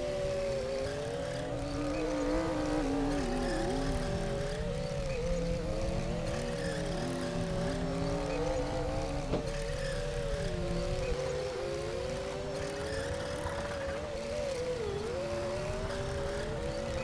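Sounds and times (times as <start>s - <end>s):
wavering machinery whines: 0.0s - 17.0s.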